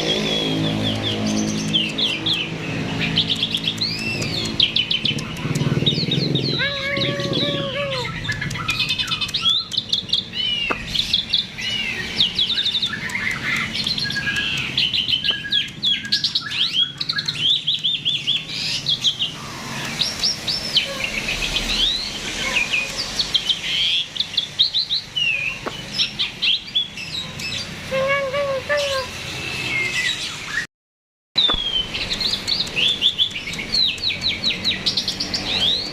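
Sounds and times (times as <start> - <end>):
starling singing: 0.0 - 29.2, 31.4 - 35.9.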